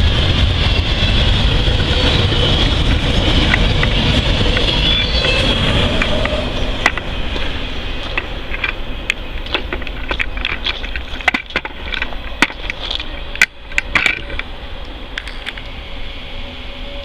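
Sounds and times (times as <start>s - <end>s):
freight train rumble: 0.0s - 17.0s
wheels clicking and clanking: 0.4s - 15.8s.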